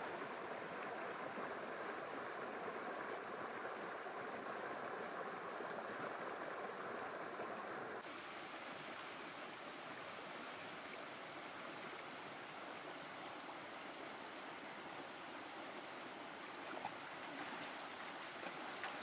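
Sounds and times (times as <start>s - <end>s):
stream water flowing over rocks: 0.0s - 19.0s.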